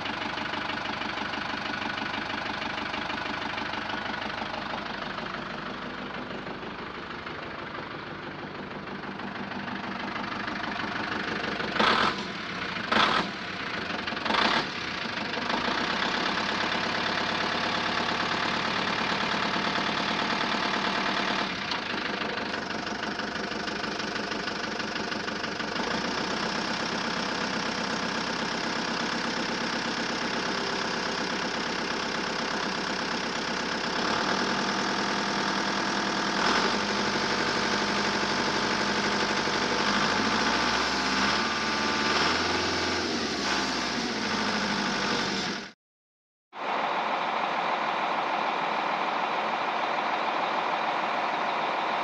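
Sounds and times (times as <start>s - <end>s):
truck engine running: 0.0s - 45.8s, 46.6s - 52.0s.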